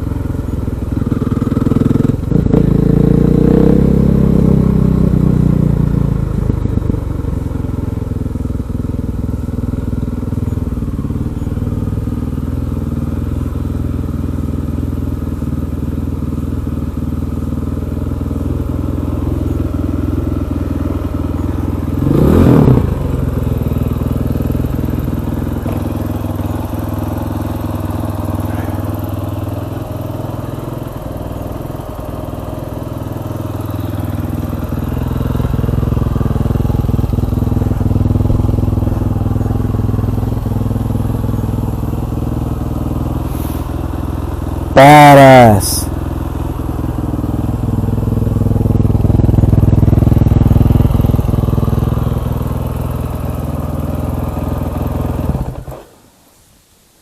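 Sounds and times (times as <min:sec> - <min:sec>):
motorcycle engine running: 0:00.0 - 0:55.8.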